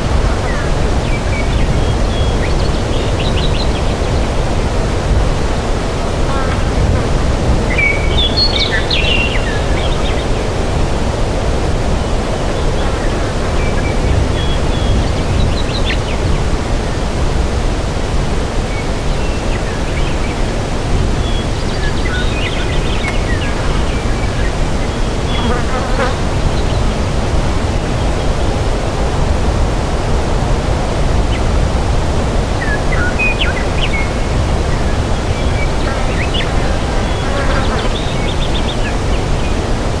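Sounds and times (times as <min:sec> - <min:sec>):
forest rushing noise: 0:00.0 - 0:40.0.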